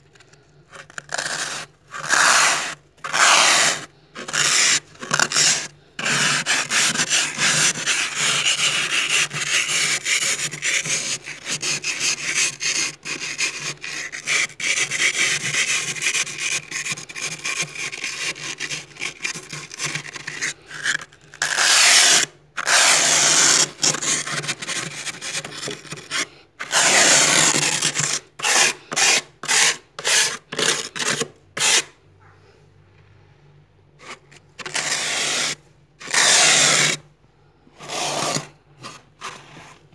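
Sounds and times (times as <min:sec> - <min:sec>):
plastic card scraping frost: 0:00.0 - 0:32.0, 0:34.0 - 0:37.1, 0:37.8 - 0:39.9.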